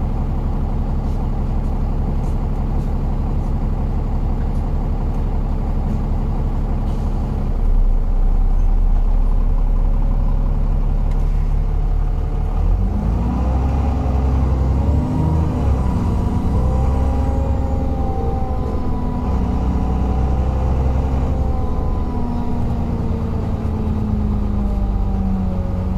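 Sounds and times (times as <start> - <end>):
bus engine rumbling: 0.0 - 25.9
bus whine: 0.0 - 25.9.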